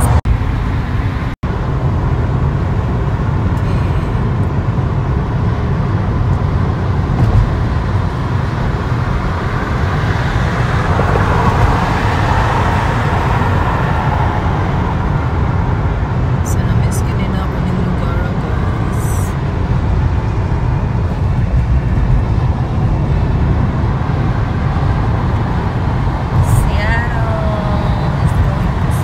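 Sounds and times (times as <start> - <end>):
car road noise rumble: 0.0 - 29.0.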